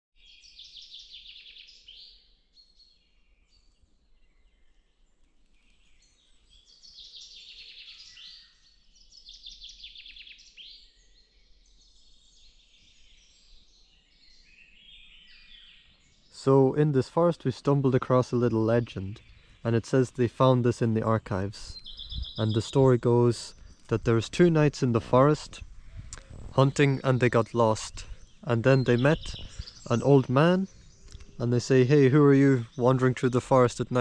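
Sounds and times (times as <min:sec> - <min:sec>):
bird chirps: 0:00.2 - 0:34.0
songbirds trilling: 0:00.2 - 0:34.0.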